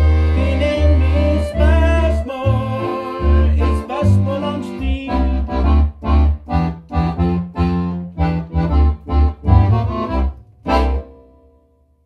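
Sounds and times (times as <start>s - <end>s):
piano accordion playing chords: 0.0s - 11.7s.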